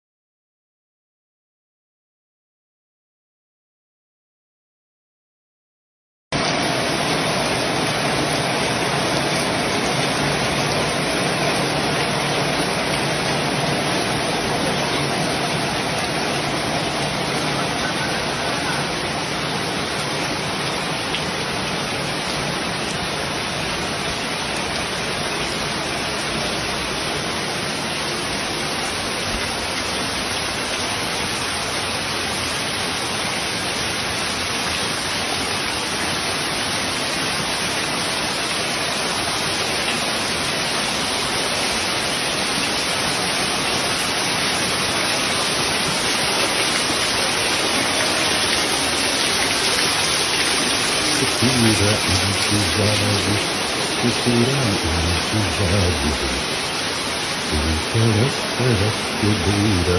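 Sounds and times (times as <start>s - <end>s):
heavy rain falling: 6.4s - 59.9s.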